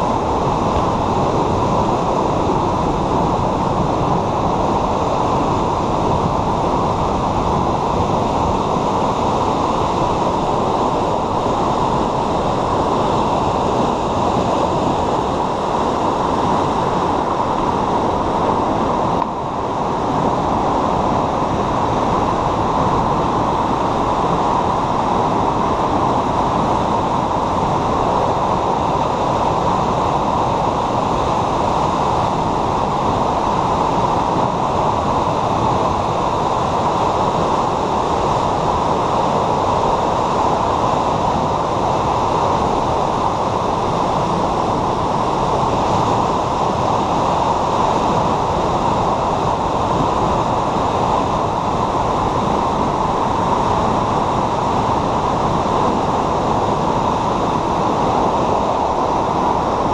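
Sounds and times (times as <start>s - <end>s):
river water rushing roar: 0.0s - 59.9s.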